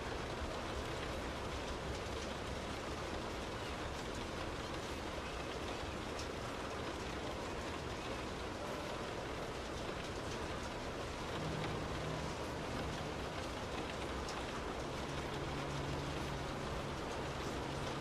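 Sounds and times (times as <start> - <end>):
rain on car roof: 0.0 - 18.0.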